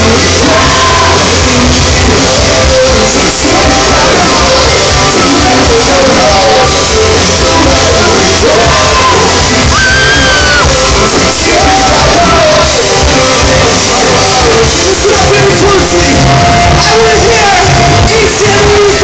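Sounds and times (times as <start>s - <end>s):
live band with guitars and drums: 0.0s - 19.0s
singer's voice: 0.0s - 19.0s.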